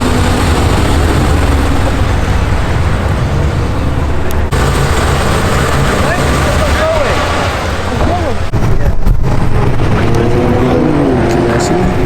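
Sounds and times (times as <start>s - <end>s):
loud car engine: 0.0s - 12.0s.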